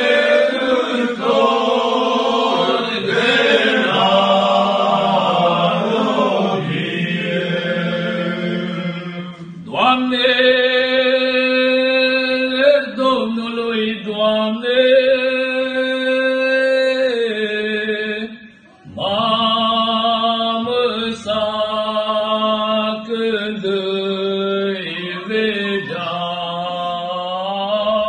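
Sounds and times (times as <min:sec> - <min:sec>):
men singing a carol: 0:00.0 - 0:18.4, 0:19.0 - 0:28.0.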